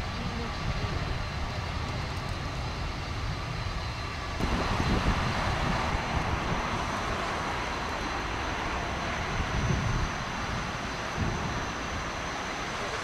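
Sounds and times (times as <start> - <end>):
jet engine high whine: 0.0 - 13.0
jet engines rumbling while taxiing: 0.0 - 13.0.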